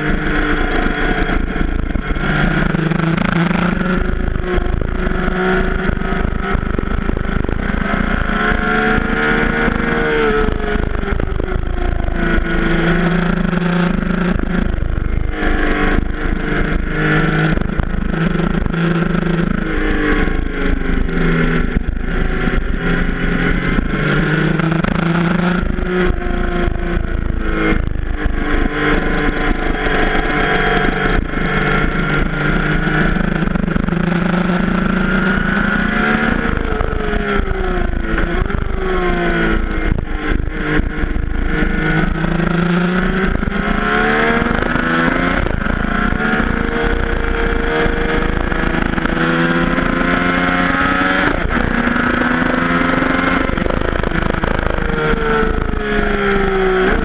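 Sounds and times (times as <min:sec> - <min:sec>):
motorcycle engine revving: 0:00.0 - 0:57.0
wind buffeting microphone: 0:00.0 - 0:57.0.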